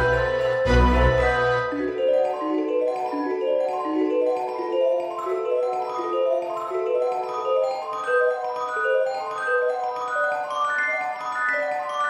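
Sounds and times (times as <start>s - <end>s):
marimba melody: 0.0s - 12.0s.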